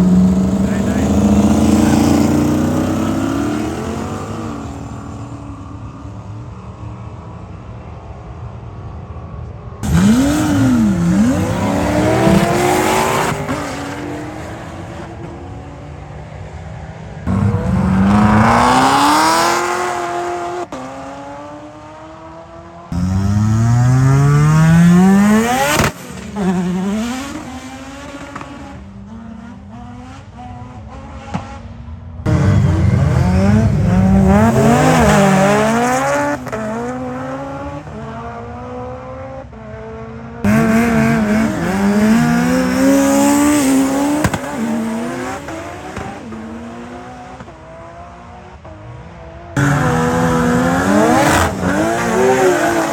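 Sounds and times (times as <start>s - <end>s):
car engines at full throttle: 0.0s - 52.9s.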